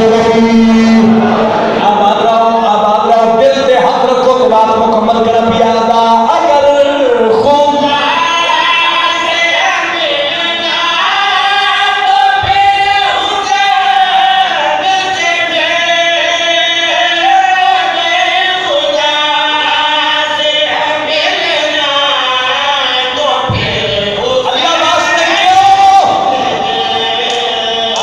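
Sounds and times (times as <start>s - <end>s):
men singing through microphone: 0.0s - 28.0s.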